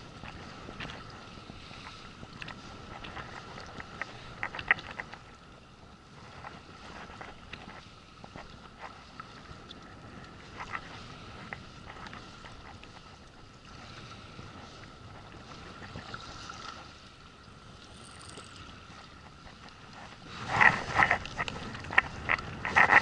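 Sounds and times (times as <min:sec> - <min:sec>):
water around boat: 0:00.0 - 0:23.0
wind: 0:00.0 - 0:23.0.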